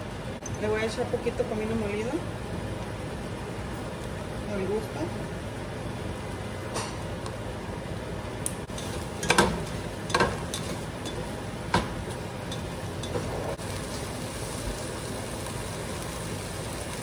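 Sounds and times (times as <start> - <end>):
steady cooking hiss: 0.0 - 17.0.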